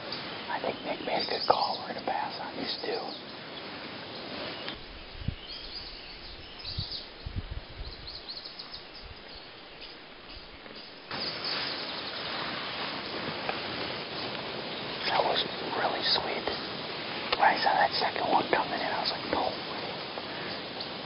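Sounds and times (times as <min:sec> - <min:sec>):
birds chirping: 0:00.0 - 0:16.6, 0:17.2 - 0:21.0
quiet hiss: 0:00.0 - 0:21.0
steady rustling hiss: 0:00.0 - 0:21.0.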